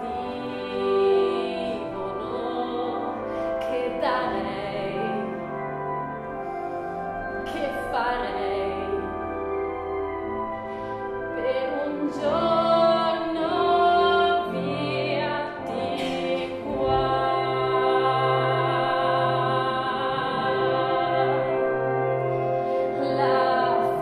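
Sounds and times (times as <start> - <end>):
woman singing a ballad: 0.0 - 5.4, 7.4 - 9.4, 11.4 - 22.2, 23.0 - 24.0
sustained accompaniment: 0.0 - 24.0.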